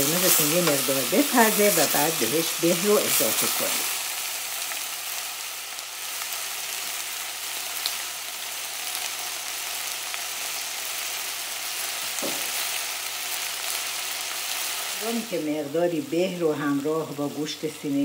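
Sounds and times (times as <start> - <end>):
food sizzling in a pot: 0.0 - 18.0.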